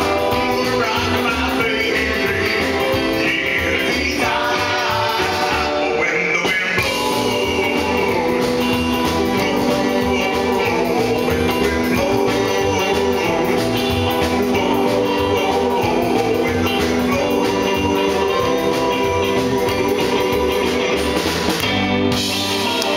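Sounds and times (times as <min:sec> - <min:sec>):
bass line: 0:00.0 - 0:22.9
electric guitar: 0:00.0 - 0:22.9
man singing lead: 0:00.0 - 0:22.9
saxophone: 0:00.0 - 0:22.9.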